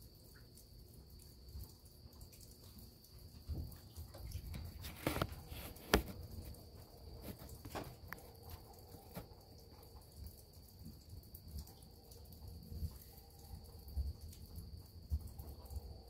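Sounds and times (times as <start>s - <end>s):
night insect chorus: 0.0s - 16.0s.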